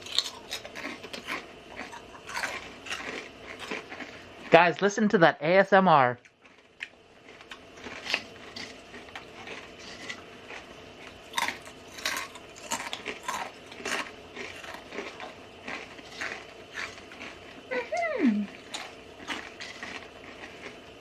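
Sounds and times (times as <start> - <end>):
potato chips crunching: 0.0 - 4.6, 6.2 - 21.0.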